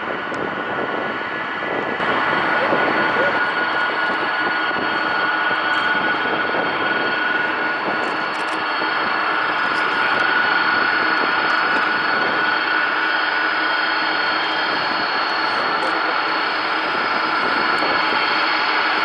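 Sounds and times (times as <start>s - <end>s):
jet engines whining and rushing: 0.0s - 19.0s.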